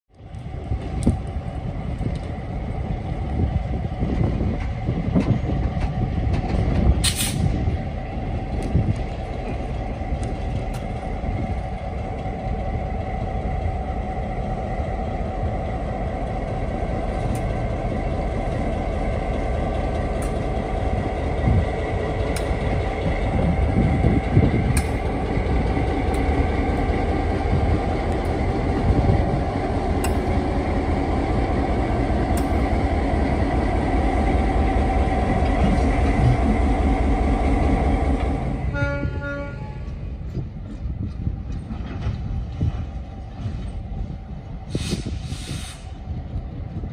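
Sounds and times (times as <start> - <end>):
diesel locomotive engine running: 0.1 - 46.9.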